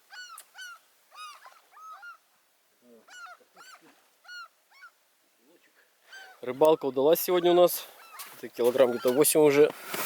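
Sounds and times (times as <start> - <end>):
gulls calling: 0.0 - 5.0, 6.0 - 9.7.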